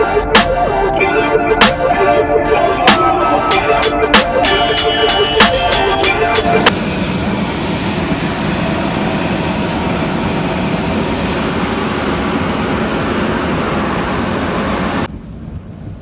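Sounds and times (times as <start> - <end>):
high-pitched jet whine: 0.0 - 15.1
jet airliner roar: 0.0 - 16.0.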